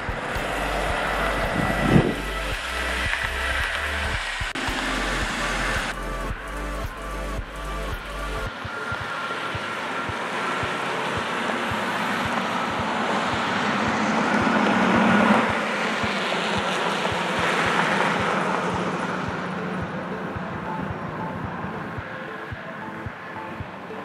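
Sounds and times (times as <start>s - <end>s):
vehicle rushing past: 0.0s - 20.4s.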